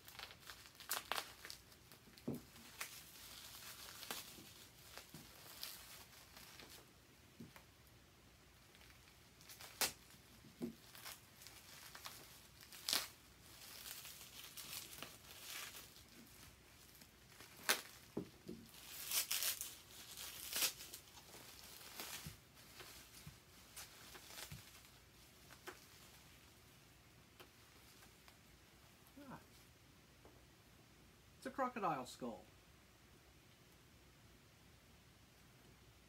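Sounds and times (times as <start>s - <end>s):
plastic wrapping crinkling: 0.0s - 7.8s, 8.5s - 29.6s.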